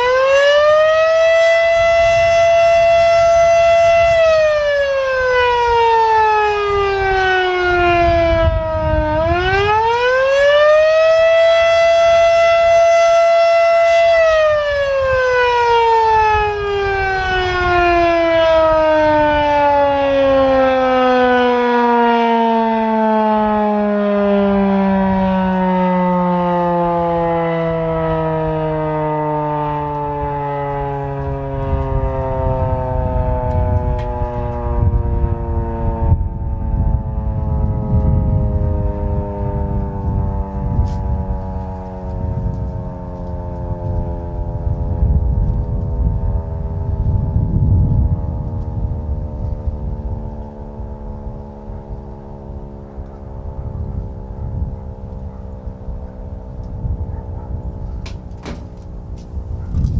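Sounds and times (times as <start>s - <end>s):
rotating warning siren wailing: 0.0s - 59.9s.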